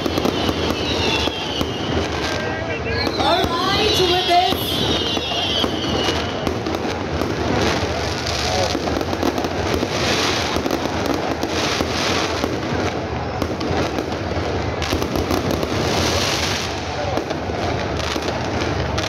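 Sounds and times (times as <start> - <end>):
crowd voices: 0.0 - 19.0
loud crackling and popping: 0.0 - 19.0.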